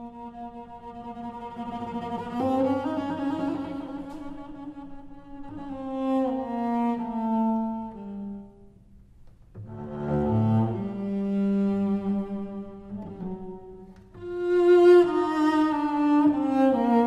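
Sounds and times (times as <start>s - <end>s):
solo cello bowed: 0.0s - 17.0s.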